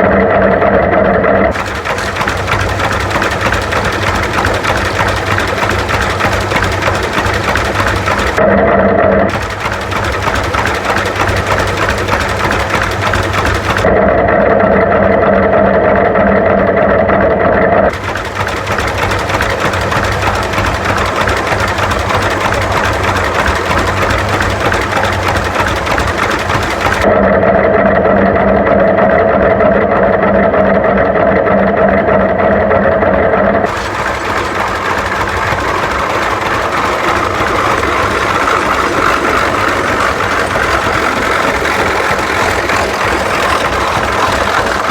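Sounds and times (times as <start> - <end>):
tractor engine running: 0.2 - 14.1, 16.0 - 27.2, 33.6 - 44.9.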